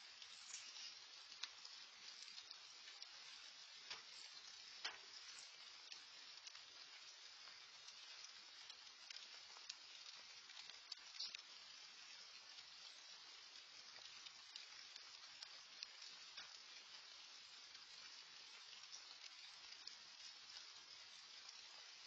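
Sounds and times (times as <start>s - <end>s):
drip ticks: 0.0s - 22.0s
light rain hiss: 0.0s - 22.0s.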